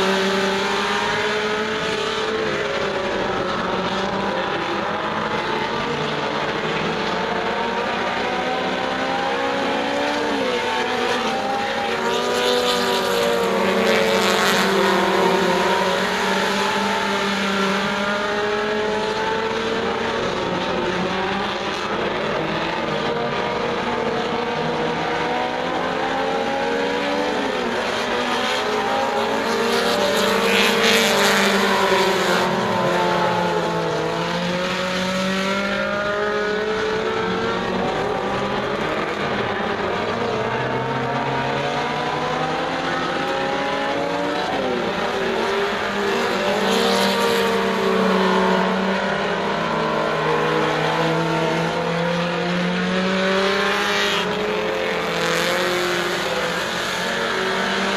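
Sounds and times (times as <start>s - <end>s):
race car engines accelerating: 0.0s - 57.9s.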